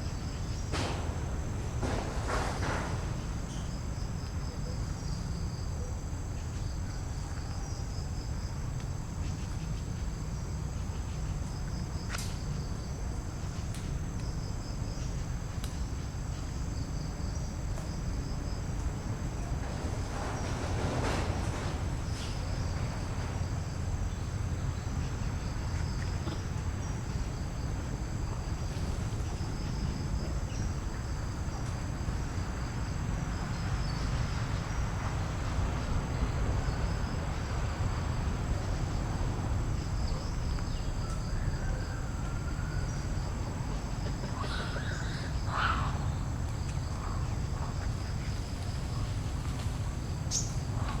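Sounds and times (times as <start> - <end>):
insects droning: 0.0 - 51.0
low wind rumble: 0.0 - 51.0.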